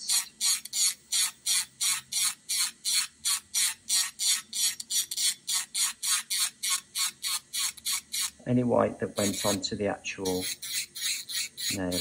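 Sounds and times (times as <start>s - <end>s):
file rasping on nail: 0.0s - 8.4s, 9.2s - 12.0s.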